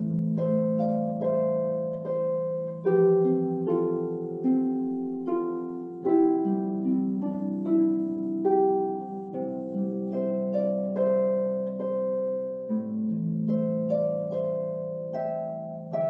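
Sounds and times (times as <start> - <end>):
harp notes and chords: 0.0 - 16.0.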